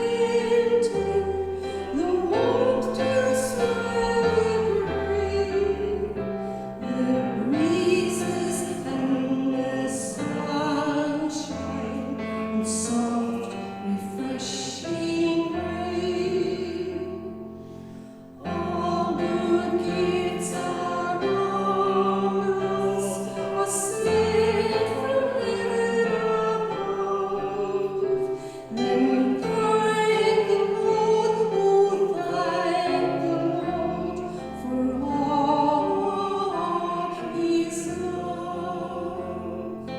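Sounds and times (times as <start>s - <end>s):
classical-style singing: 0.0s - 39.9s.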